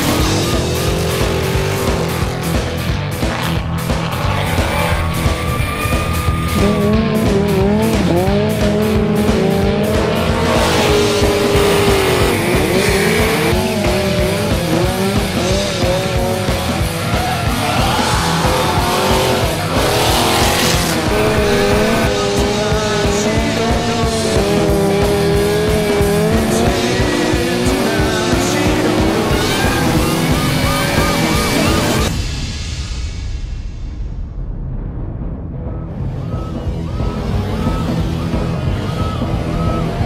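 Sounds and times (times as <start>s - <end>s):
car engine revving: 0.0s - 32.2s, 36.0s - 40.0s
tires squealing: 0.0s - 32.2s, 36.2s - 40.0s
rock music: 0.0s - 40.0s.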